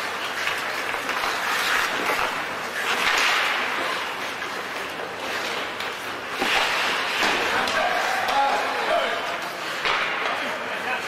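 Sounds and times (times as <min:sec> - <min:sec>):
rushing hall background noise: 0:00.0 - 0:11.0
skates scraping ice: 0:00.0 - 0:11.0
sticks and puck clacking: 0:00.0 - 0:11.0.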